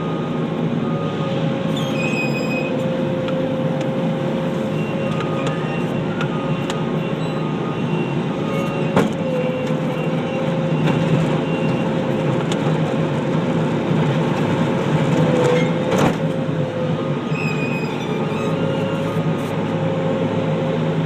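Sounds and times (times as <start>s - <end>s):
skid steer loader engine whining: 0.0s - 21.0s.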